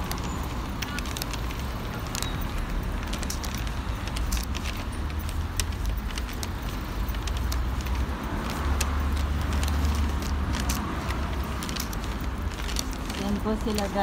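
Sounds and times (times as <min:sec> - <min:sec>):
leash clips jingling: 0:00.0 - 0:14.0
street traffic rumble: 0:00.0 - 0:14.0
vehicle passing: 0:00.0 - 0:14.0.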